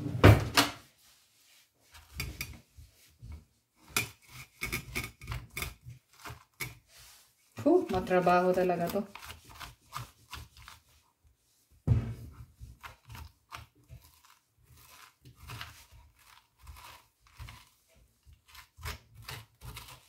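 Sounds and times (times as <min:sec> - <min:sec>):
spoon scraping pumpkin: 0:01.0 - 0:20.0.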